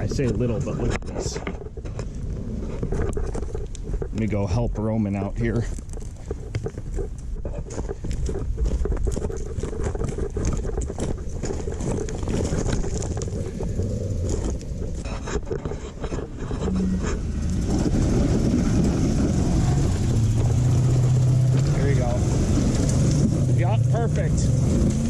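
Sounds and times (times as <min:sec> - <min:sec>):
knocks and crunches: 0:00.0 - 0:25.0
vehicle engine rumbling: 0:00.0 - 0:25.0.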